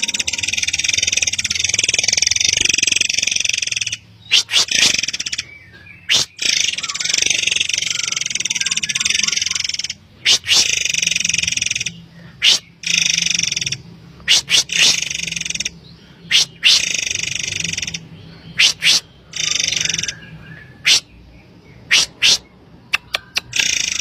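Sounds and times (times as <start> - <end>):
bird piercing notes: 0.0 - 21.0
bird buzzy trills: 0.0 - 24.0.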